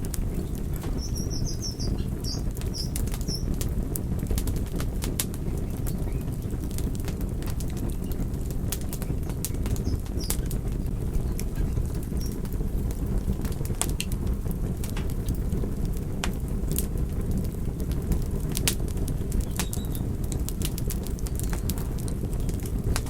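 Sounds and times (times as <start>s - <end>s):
fire crackling and popping: 0.0s - 23.0s
wood fire rumbling: 0.0s - 23.0s.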